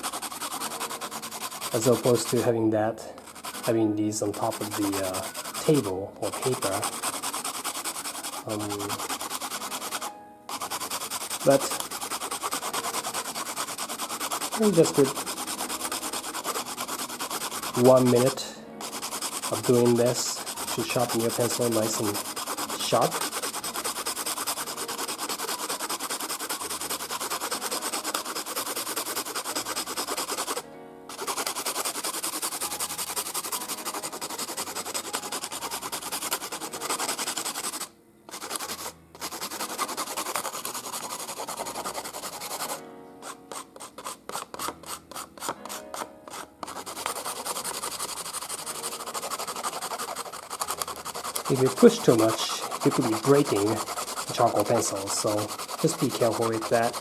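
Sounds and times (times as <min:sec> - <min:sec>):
pencil scratching on sandpaper: 0:00.0 - 0:57.0.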